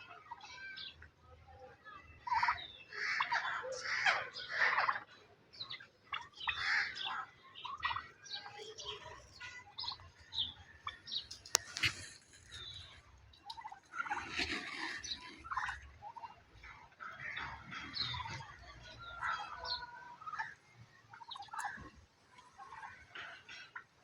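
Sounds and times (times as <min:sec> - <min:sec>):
turkeys calling: 0:00.0 - 0:01.1, 0:02.2 - 0:24.0
fowl chirping: 0:02.2 - 0:24.0.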